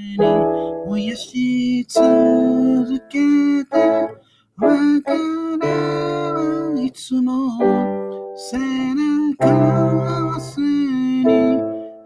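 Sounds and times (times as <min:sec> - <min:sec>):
man singing: 0:00.0 - 0:12.0
piano ballad chords: 0:00.0 - 0:12.0.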